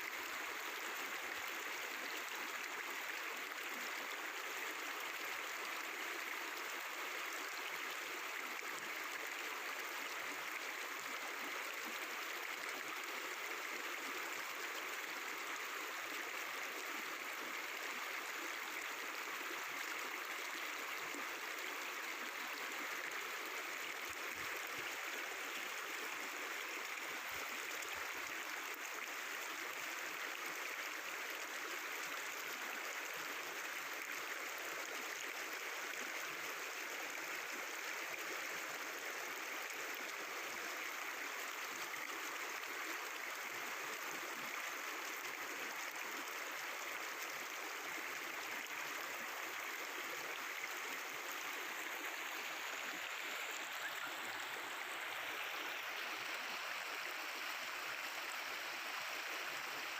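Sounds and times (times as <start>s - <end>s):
river water babbling over rocks: 0.0s - 59.9s.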